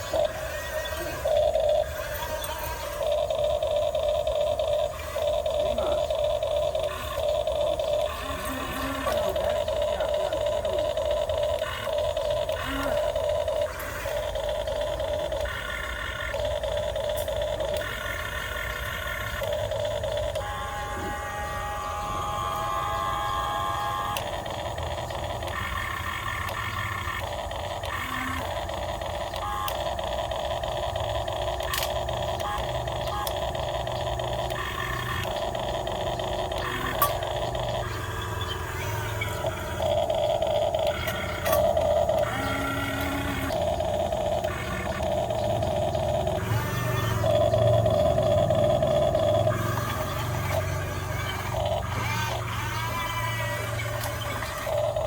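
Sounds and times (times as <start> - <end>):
small electric motors whining: 0.0 - 55.0
steady low hum: 0.0 - 55.0.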